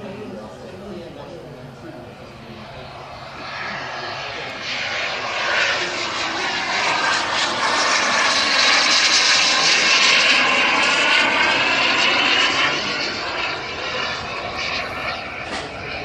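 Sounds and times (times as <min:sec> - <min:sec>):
model jet roar with high whine: 0:00.0 - 0:16.0.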